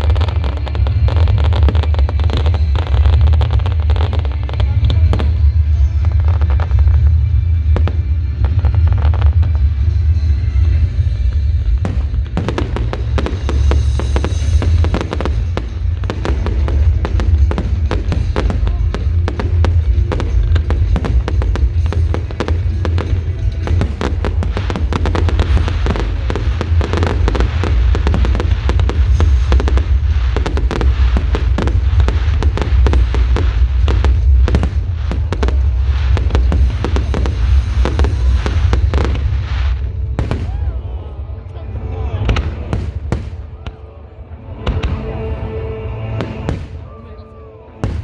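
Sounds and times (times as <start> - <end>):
fireworks bangs and crackles: 0.0 - 41.3, 42.1 - 43.9, 46.2 - 48.0
low rumble: 0.0 - 48.0
music playing: 0.0 - 48.0.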